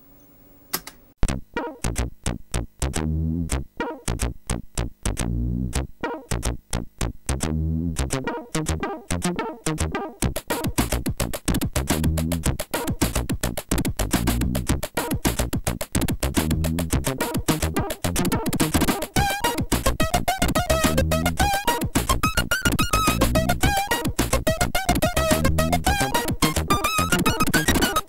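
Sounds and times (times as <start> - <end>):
electronic music with fast beat: 1.2 - 28.0.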